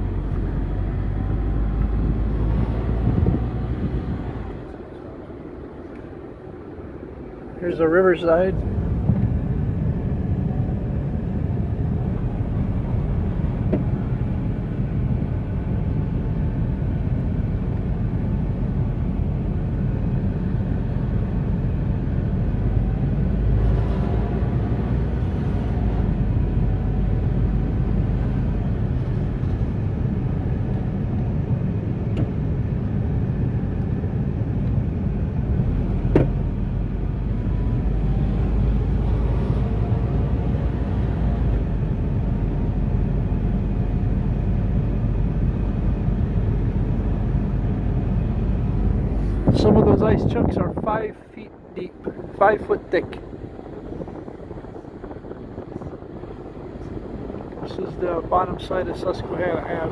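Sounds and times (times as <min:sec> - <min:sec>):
vehicle driving rumble: 0:00.0 - 0:59.9.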